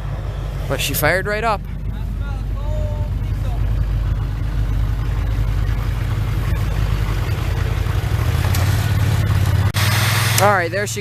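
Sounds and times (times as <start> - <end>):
diesel engine high idling: 0.0 - 11.0.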